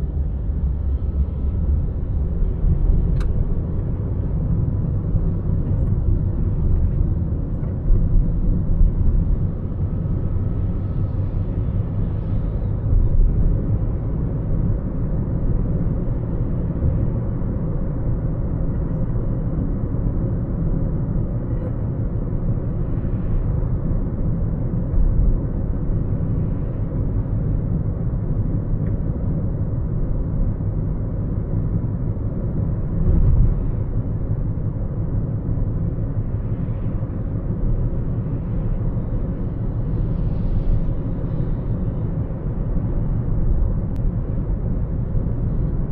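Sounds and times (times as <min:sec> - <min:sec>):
car tyres and engine rumbling: 0:00.0 - 0:45.9.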